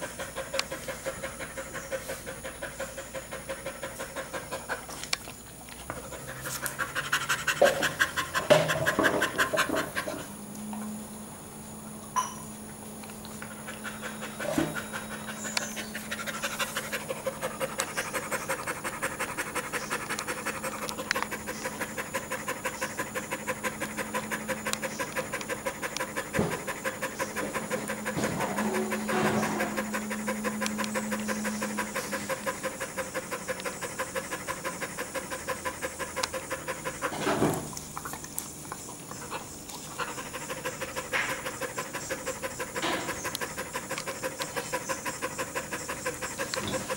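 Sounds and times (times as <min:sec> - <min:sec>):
dog panting: 0:00.0 - 0:10.4, 0:13.3 - 0:46.9.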